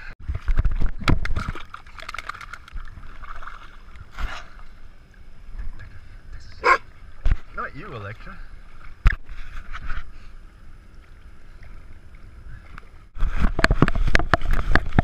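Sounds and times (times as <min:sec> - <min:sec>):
water sloshing and splashing: 0:00.2 - 0:15.0.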